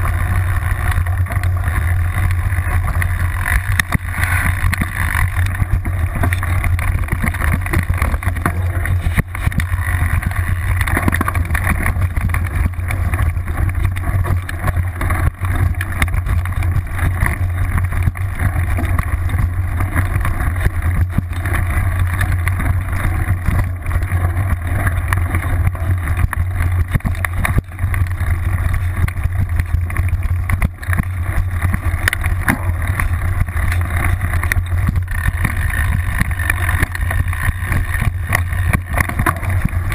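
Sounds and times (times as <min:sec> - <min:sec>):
bike knocking and rattling: 0:00.0 - 0:39.9.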